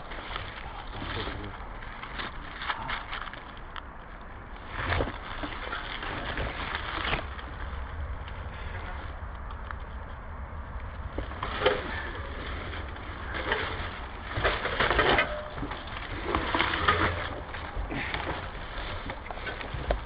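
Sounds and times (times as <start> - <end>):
dry leaves crunching and rustling: 0.0 - 20.0
low microphone rumble: 0.0 - 20.0.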